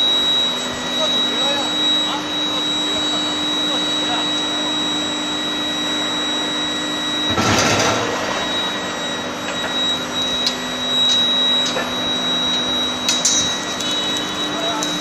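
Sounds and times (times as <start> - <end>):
electrical hum with high tone: 0.0 - 15.0.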